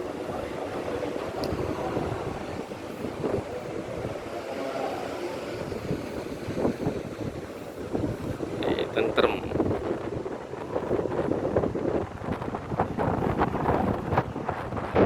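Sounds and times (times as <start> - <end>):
diesel bus engines rumbling: 0.0 - 14.9
wind buffeting microphone: 0.0 - 15.0.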